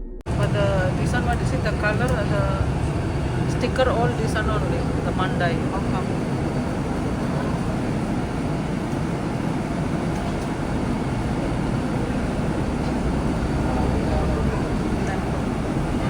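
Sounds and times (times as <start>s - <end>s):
car road and engine noise: 0.2s - 16.0s.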